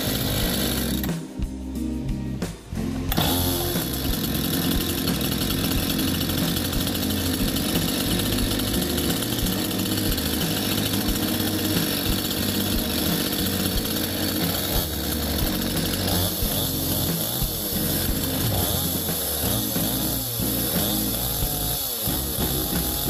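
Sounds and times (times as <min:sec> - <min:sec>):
chainsaw engine running: 0:00.0 - 0:01.3, 0:02.8 - 0:23.0.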